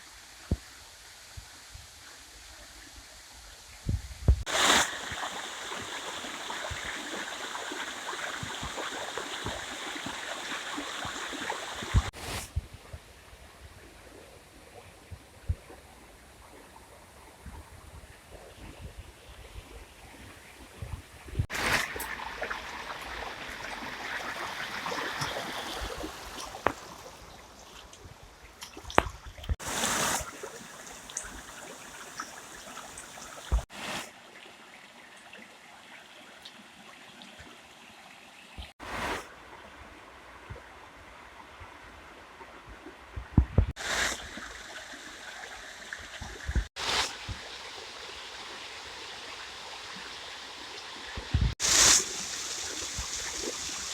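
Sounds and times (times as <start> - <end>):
waterfall stream trickling: 0.0 - 12.4, 19.2 - 43.1, 43.7 - 53.9.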